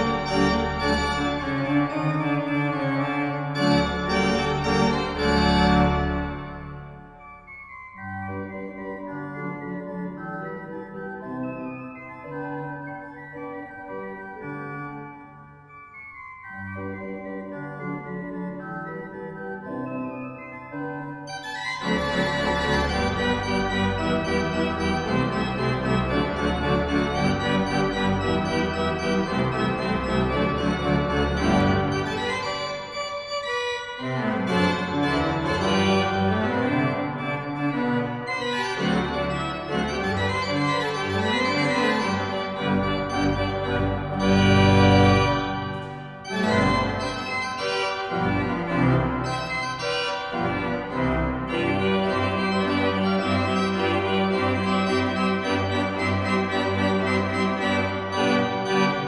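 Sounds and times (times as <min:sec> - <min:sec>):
pipe organ playing: 0:00.0 - 0:59.0.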